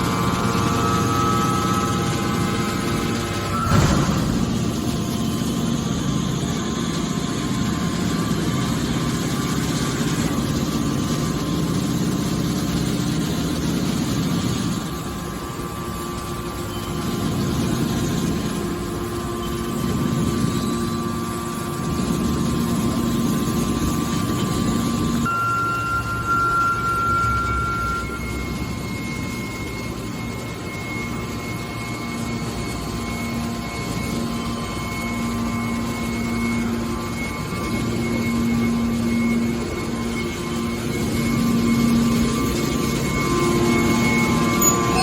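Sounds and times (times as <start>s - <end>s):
baler machine drone: 0.0s - 45.0s.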